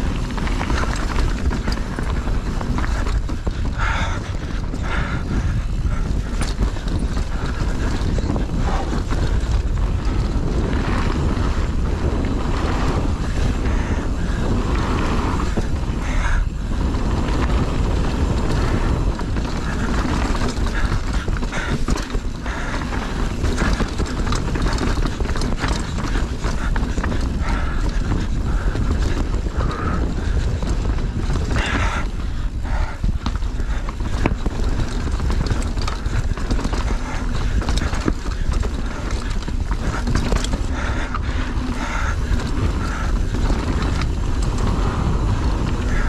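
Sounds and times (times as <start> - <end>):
bike clattering and knocking: 0.0 - 46.0
mountain bike riding noise: 0.0 - 46.0.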